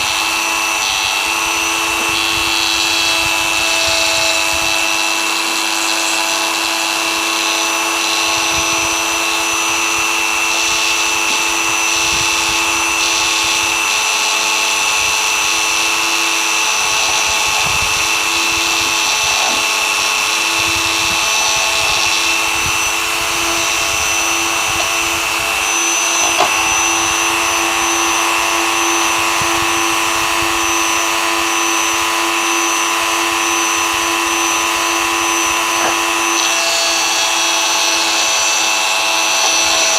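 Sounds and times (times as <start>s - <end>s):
rotary tool whine: 0.0s - 39.9s.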